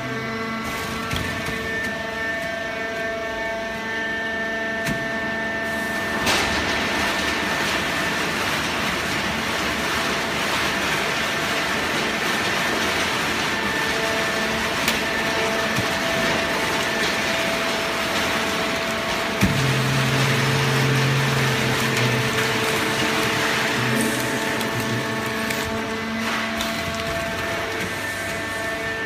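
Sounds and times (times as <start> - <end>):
baling press machine hum: 0.0 - 29.0.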